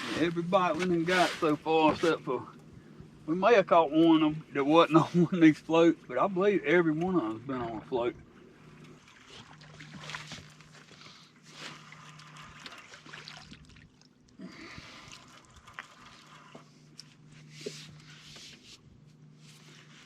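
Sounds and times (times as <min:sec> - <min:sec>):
water splashing against a boat: 0:00.0 - 0:20.0.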